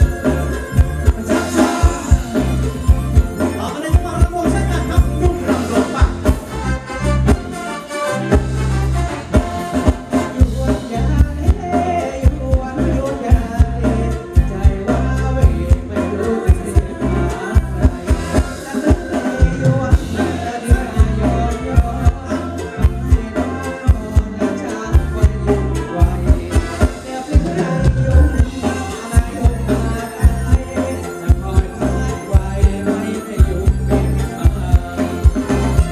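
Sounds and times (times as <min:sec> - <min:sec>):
live band dance music: 0:00.0 - 0:35.9
person singing: 0:00.0 - 0:35.9.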